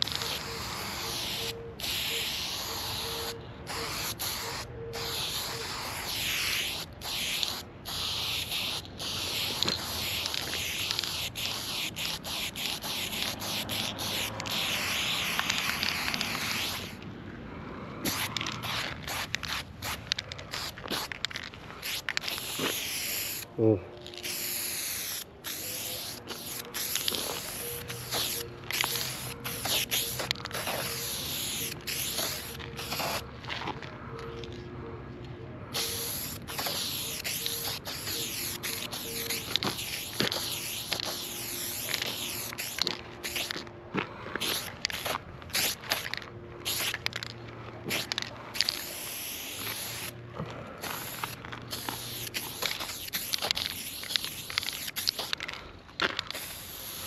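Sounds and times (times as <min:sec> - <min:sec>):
spray paint can hissing: 0:00.0 - 0:17.0, 0:18.0 - 0:23.5, 0:24.1 - 0:33.3, 0:35.7 - 0:43.7, 0:44.4 - 0:47.3, 0:47.9 - 0:50.2, 0:50.8 - 0:55.5, 0:56.2 - 0:57.0.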